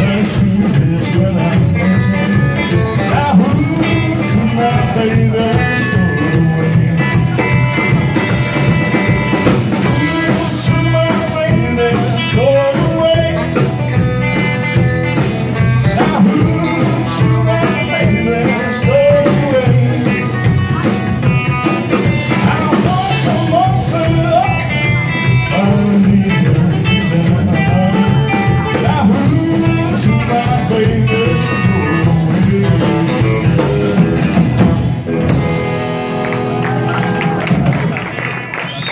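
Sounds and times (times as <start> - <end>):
upright double bass: 0.0 - 38.3
drum kit: 0.0 - 38.9
electric guitar: 0.0 - 38.9.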